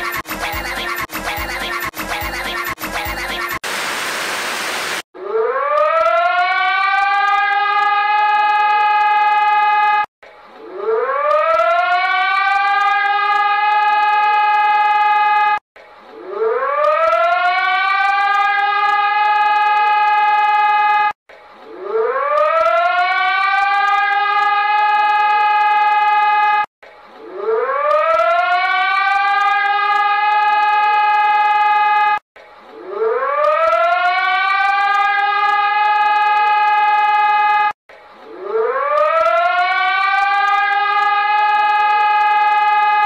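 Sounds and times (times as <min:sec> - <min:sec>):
warning siren: 0:00.0 - 0:43.0.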